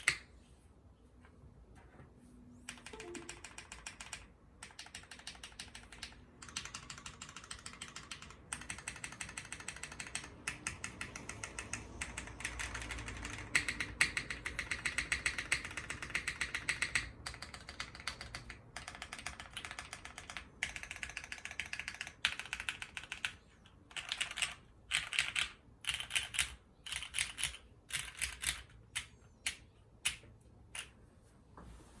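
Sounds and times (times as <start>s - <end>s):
mechanical keyboard typing: 2.7s - 30.9s.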